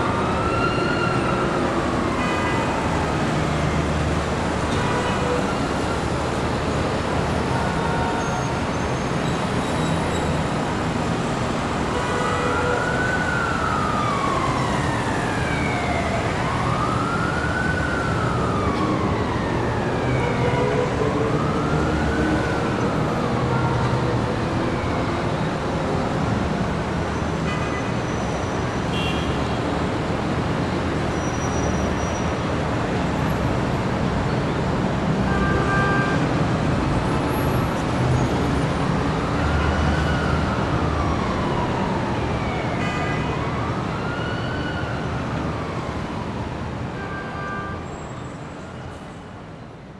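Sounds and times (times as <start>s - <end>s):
emergency vehicle siren wailing: 0.0s - 48.8s
city street traffic: 0.0s - 49.9s.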